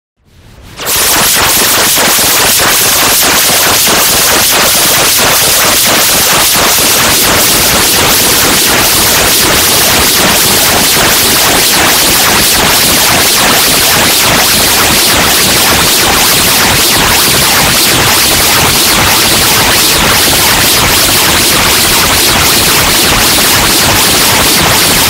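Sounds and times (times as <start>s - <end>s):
loud static-like hiss: 0.4s - 25.0s
dense crackling pulses: 0.8s - 25.0s.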